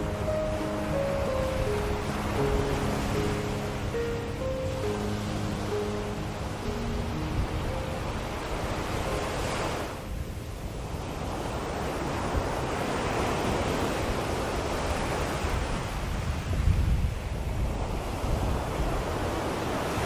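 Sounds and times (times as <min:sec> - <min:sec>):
ocean surf washing in and out: 0:00.0 - 0:20.0.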